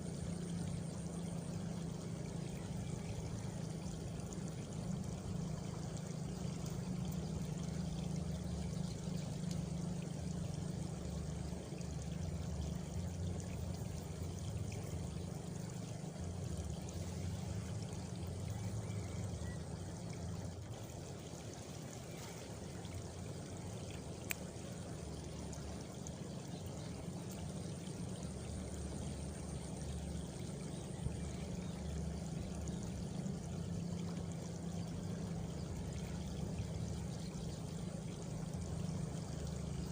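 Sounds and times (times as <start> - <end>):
water flowing and splashing: 0.0 - 39.9.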